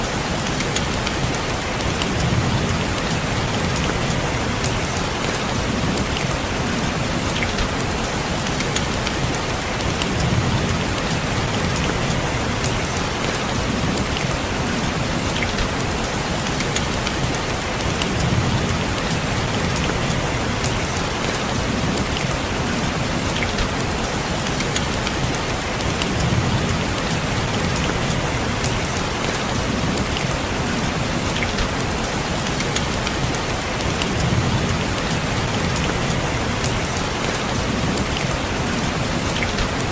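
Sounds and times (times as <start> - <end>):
rain on a window pane: 0.0 - 39.9.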